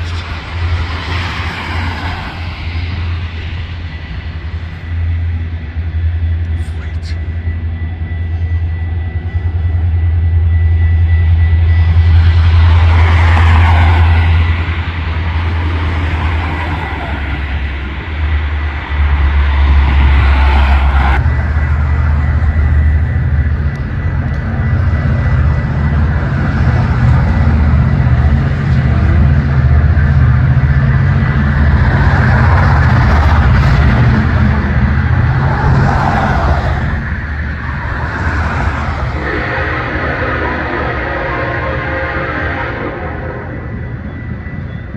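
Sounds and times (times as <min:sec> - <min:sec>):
rushing noise: 0:00.0 - 0:44.9
train passing close by: 0:00.0 - 0:44.9.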